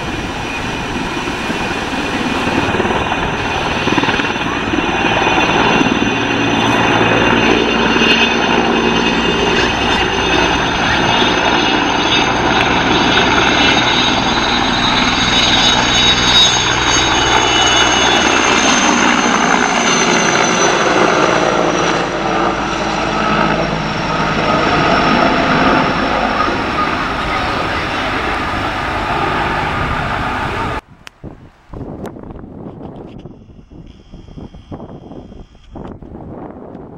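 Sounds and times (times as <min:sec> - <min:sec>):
helicopter rotor noise: 0:00.0 - 0:30.9, 0:31.9 - 0:36.9
high turbine whine: 0:00.0 - 0:36.9.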